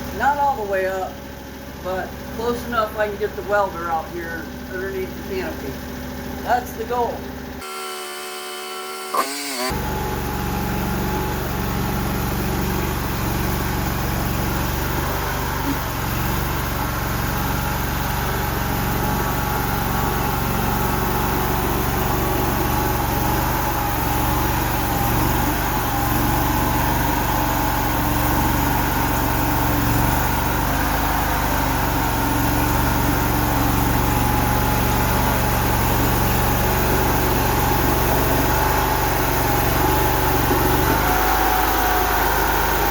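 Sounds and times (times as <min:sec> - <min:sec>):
skid steer engine running: 0:00.0 - 0:42.9.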